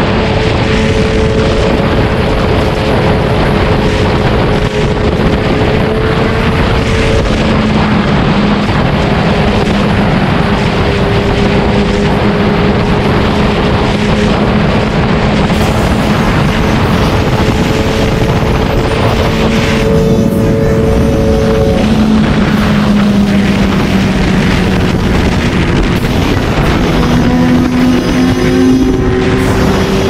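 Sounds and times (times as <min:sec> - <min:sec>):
motorcycle engine cruising: 0:00.0 - 0:30.0
wind rush on microphone: 0:00.0 - 0:30.0.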